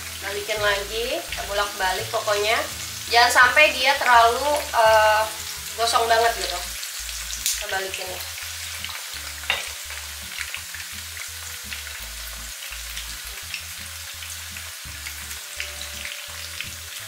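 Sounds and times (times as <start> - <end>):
batter deep-frying in oil: 0.0 - 17.0
oil popping and crackling: 0.0 - 17.0.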